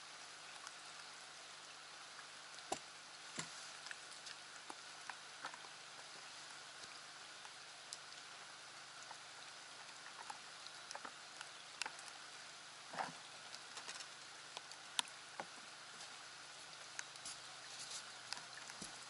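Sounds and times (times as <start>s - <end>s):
faint steady hiss: 0.0s - 19.0s
light rain pattering: 0.0s - 19.0s.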